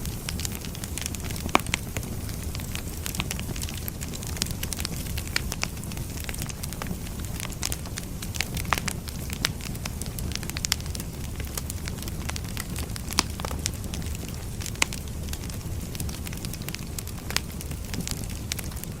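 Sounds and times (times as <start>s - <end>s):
firewood crackling and popping: 0.0s - 19.0s
low fire rumble: 0.0s - 19.0s.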